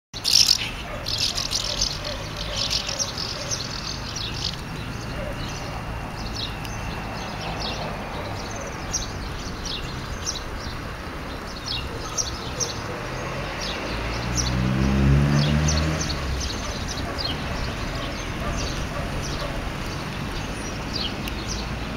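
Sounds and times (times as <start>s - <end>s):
house martins twittering: 0.2s - 14.6s, 15.4s - 21.9s.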